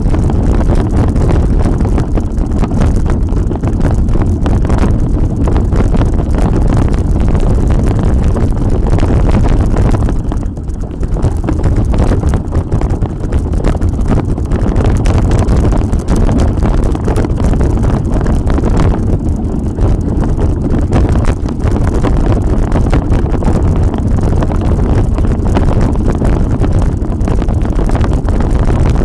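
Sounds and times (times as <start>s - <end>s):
bike rattling over bumps: 0.0s - 29.0s
bike tyre rumble: 0.0s - 29.0s
wind buffeting microphone: 0.0s - 29.0s.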